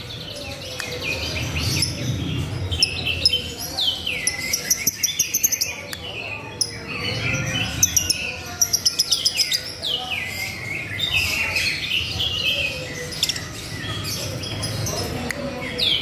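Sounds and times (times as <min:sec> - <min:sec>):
lovebird chirping and twittering: 0:00.4 - 0:15.1.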